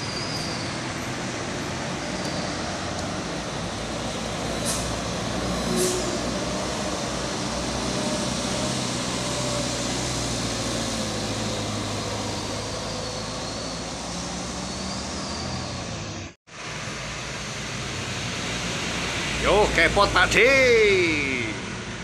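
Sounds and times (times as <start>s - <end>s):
trucks driving past: 0.0s - 22.0s.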